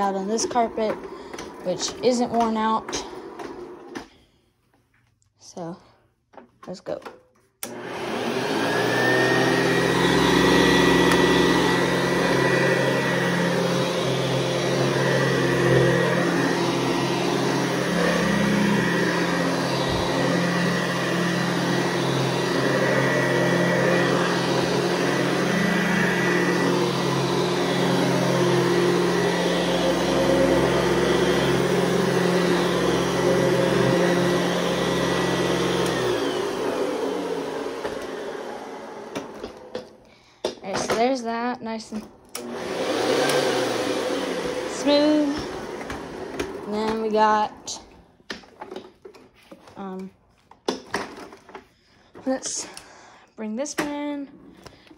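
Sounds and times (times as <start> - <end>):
vacuum cleaner motor whining: 0.0 - 4.4, 7.6 - 50.1, 50.7 - 52.9.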